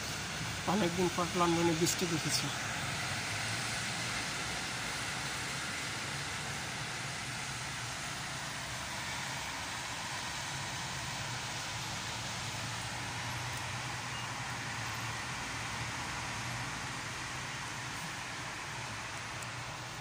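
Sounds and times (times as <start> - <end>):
rain on a wet street: 0.0 - 20.0.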